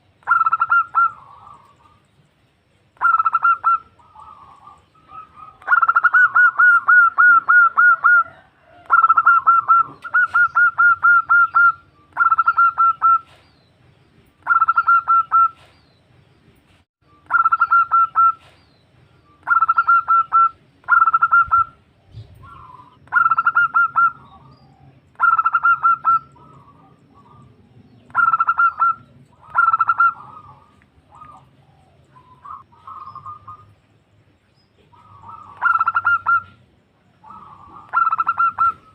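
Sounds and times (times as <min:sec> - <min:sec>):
dove cooing: 0:00.2 - 0:02.0, 0:03.0 - 0:13.4, 0:14.4 - 0:15.7, 0:17.3 - 0:18.6, 0:19.4 - 0:33.8, 0:34.8 - 0:38.9.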